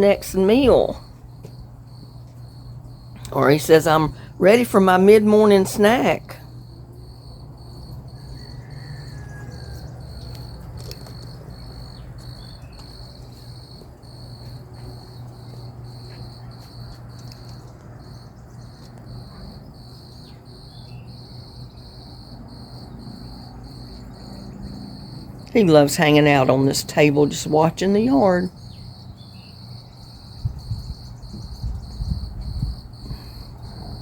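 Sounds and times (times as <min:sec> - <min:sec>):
constant low hum: 0:00.0 - 0:34.0
cricket chirping: 0:00.4 - 0:04.5, 0:06.3 - 0:27.3, 0:28.2 - 0:34.0.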